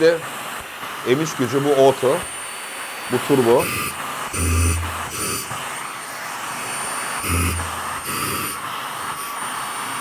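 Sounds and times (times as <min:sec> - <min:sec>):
vacuum motor whining: 0:00.0 - 0:10.0.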